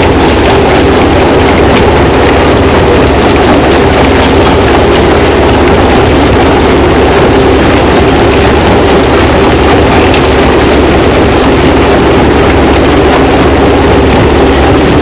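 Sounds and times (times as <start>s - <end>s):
stone crushing machinery running: 0.0s - 15.0s.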